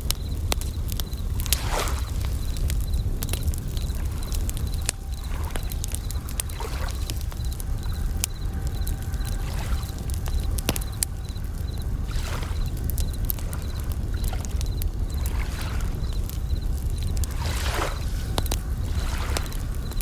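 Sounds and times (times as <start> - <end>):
campfire crackling: 0.0 - 20.0
crickets chirping: 0.0 - 20.0
low rumble: 0.0 - 20.0
waves washing in: 0.0 - 20.0.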